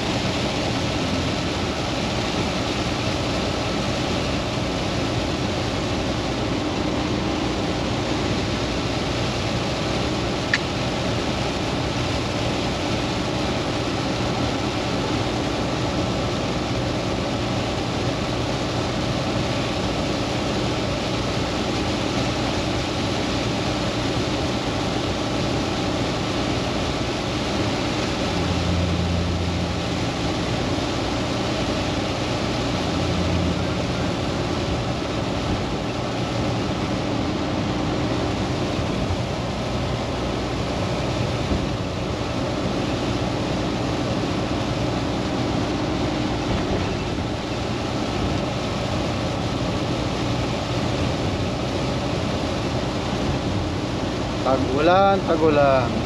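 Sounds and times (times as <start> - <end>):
low hums: 0.0 - 56.0
truck engine: 0.0 - 56.0
tyres on wet road: 0.0 - 56.0.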